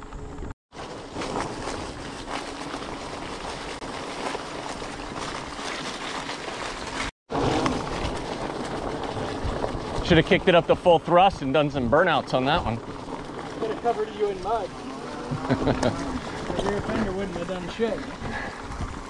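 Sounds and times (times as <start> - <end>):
bike rattling: 0.0 - 19.0
bike tyres rolling on dirt trail: 0.0 - 19.0.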